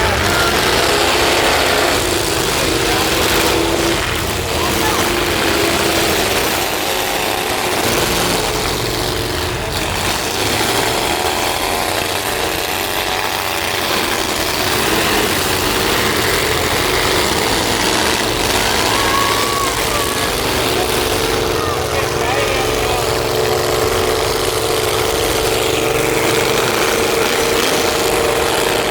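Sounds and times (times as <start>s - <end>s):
truck engines running: 0.0s - 28.9s.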